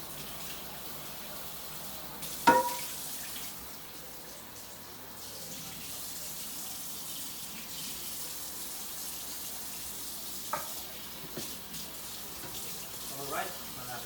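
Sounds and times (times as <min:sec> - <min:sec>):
kitchen faucet running: 0:00.0 - 0:14.0.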